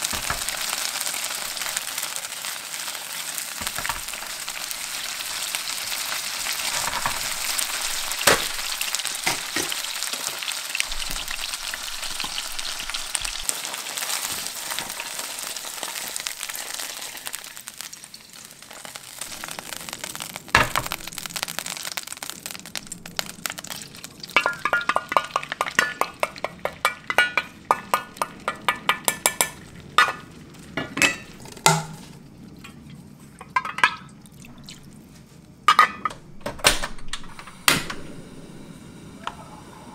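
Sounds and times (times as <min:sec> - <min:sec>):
chicken sizzling in oil: 0:00.0 - 0:32.6.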